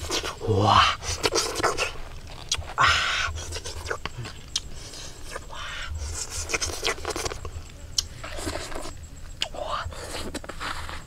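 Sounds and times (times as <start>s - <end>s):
rustling and scraping of food: 0.0s - 11.0s.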